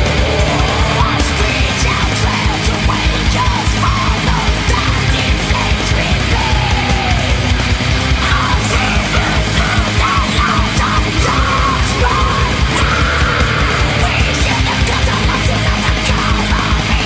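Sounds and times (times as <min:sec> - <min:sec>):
heavy rock music: 0:00.0 - 0:17.0.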